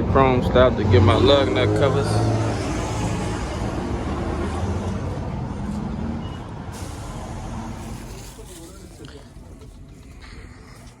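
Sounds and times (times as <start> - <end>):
heavy truck engine running: 2.0 - 11.0.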